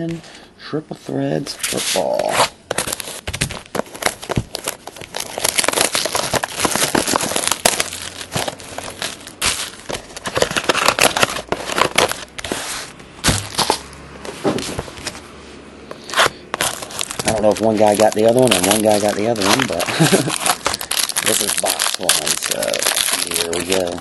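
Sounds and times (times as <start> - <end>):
plastic wrap crinkling and tearing: 2.2 - 13.9, 16.0 - 24.0.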